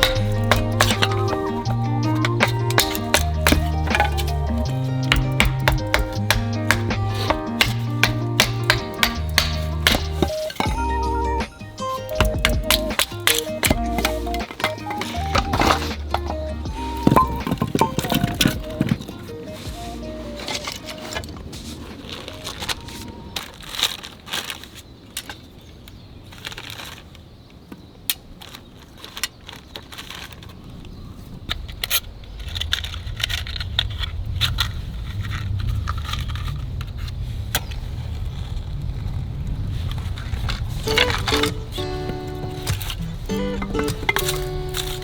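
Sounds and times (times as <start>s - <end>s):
campfire crackling: 0.0s - 25.8s, 28.2s - 45.0s.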